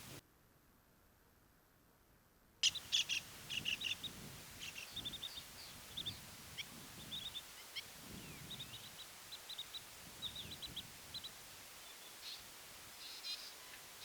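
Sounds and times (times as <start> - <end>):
birds chirping: 2.6 - 14.0.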